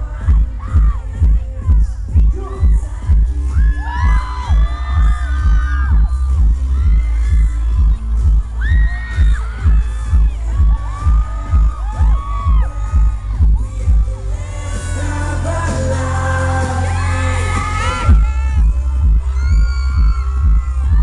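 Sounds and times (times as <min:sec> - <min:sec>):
thumping kick-drum beat: 0:00.0 - 0:14.2, 0:17.9 - 0:21.0
man singing pop song: 0:00.0 - 0:21.0
crowd whooping: 0:02.3 - 0:21.0.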